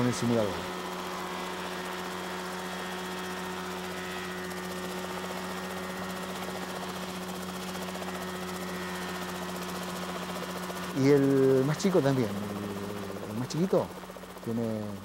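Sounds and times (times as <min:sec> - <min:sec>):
helicopter engine droning: 0:00.0 - 0:15.0.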